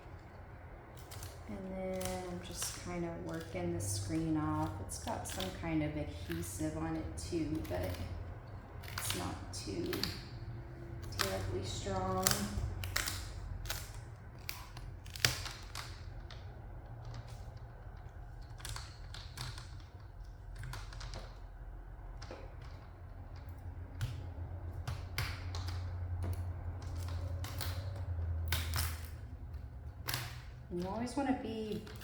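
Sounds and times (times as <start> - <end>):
low steady hum: 0.0 - 32.0
plastic clips clicking and snapping: 0.0 - 32.0.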